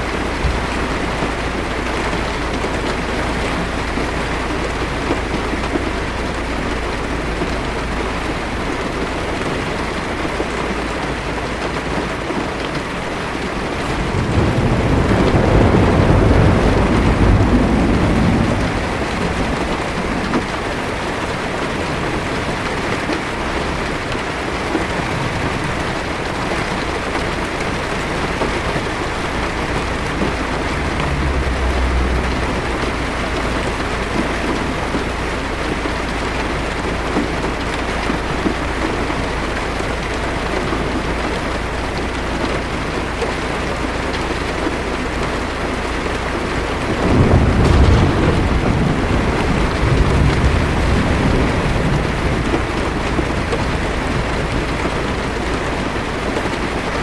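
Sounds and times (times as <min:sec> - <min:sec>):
low thunder rumble: 0:00.0 - 0:57.0
rain drumming on car roof: 0:00.0 - 0:57.0.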